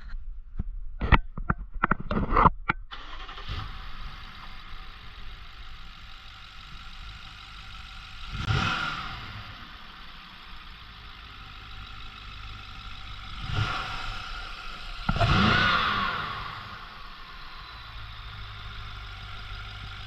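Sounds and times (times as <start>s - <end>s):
car engine starting and idling: 2.9s - 20.0s.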